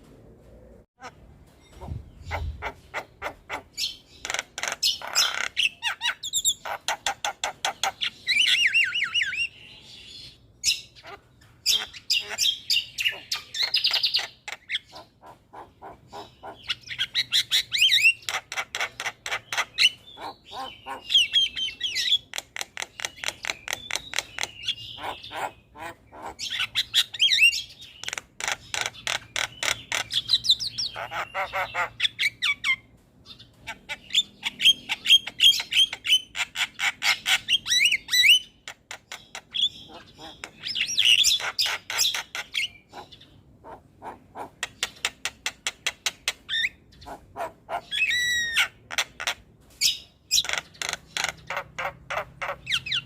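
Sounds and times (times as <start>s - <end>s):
bird chattering and whistling: 1.6s - 53.0s.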